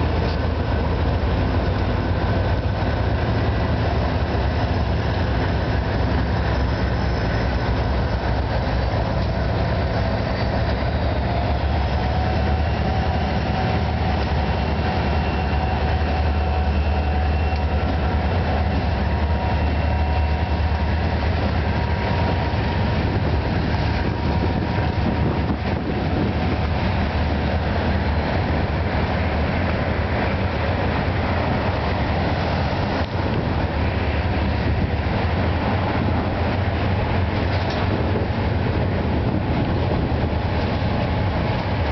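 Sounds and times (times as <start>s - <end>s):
diesel locomotive drone: 0.0s - 41.9s
train wheels clicking over rail joints: 0.0s - 41.9s.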